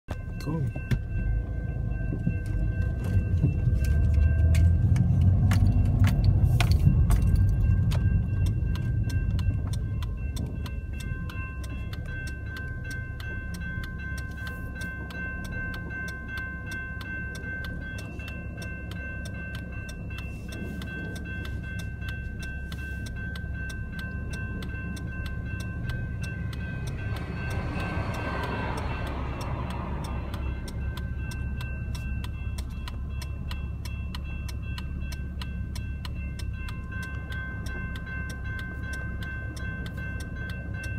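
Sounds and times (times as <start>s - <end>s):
car engine rumble: 0.0s - 40.9s
light rail train passing: 0.1s - 40.9s
railroad crossing bell ringing: 0.1s - 40.9s.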